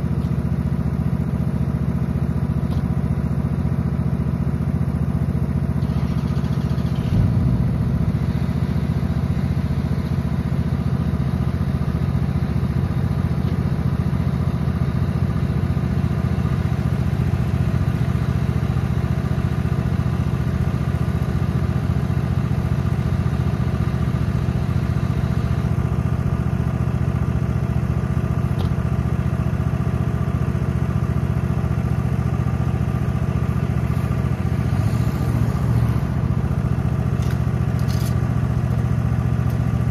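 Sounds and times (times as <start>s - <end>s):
leaf loader engine droning: 0.0s - 39.9s.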